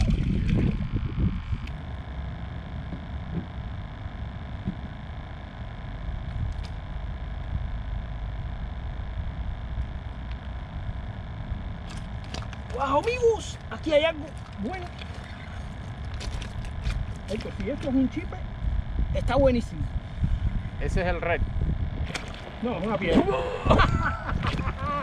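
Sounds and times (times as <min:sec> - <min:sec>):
faint steady hum: 0:00.0 - 0:25.0
wind rumbling on microphone: 0:00.0 - 0:25.0.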